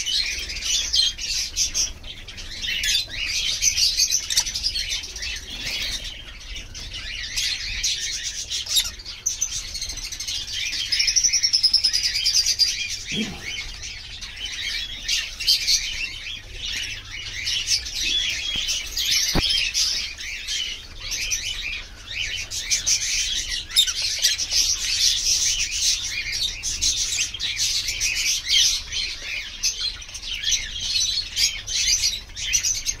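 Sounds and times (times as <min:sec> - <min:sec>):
lovebirds chirping: 0:00.0 - 0:33.0.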